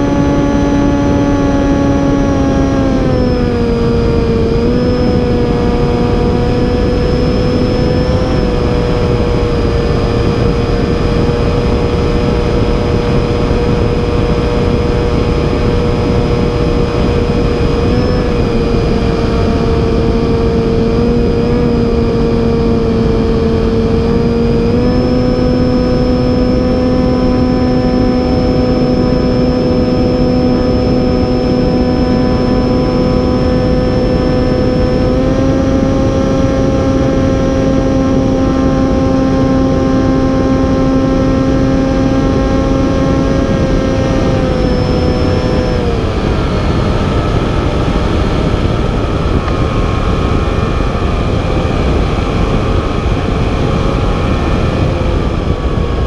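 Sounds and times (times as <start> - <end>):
model plane motor whine: 0.0 - 56.0
wind rush on microphone: 0.0 - 56.0.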